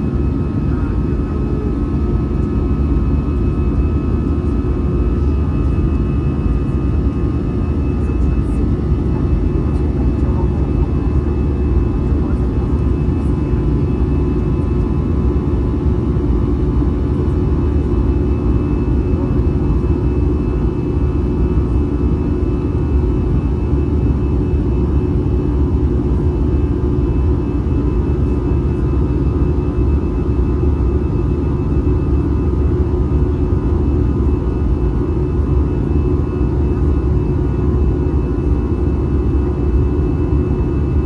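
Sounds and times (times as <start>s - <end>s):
airplane cabin engine roar: 0.0s - 41.0s.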